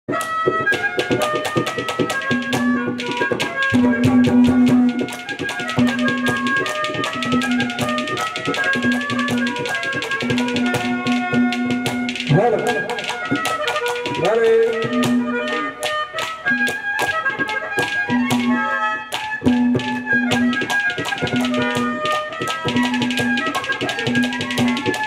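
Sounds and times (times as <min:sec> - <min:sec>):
barrel drums beating: 0:00.8 - 0:18.6, 0:19.2 - 0:25.0.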